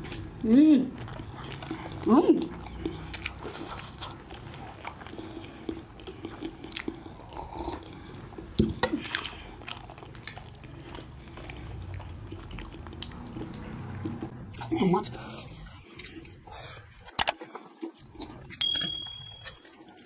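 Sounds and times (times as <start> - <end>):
people chewing: 0.0 - 18.6.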